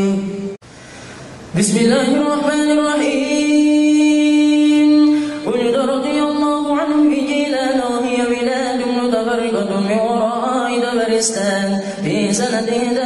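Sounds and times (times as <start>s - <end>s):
man chanting: 0.0s - 0.6s, 1.6s - 13.0s.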